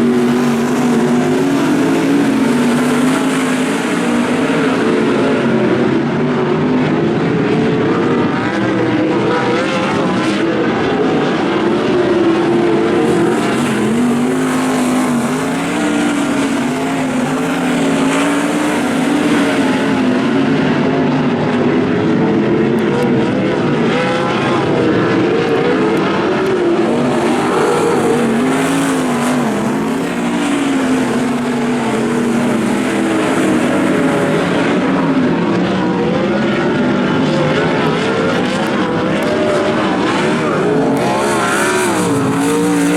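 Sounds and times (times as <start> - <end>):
race car engines wavering: 0.0 - 42.9.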